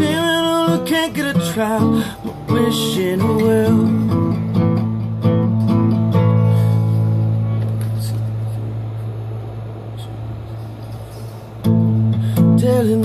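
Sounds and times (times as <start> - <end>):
acoustic guitar chords: 0.0 - 10.6, 11.2 - 13.0.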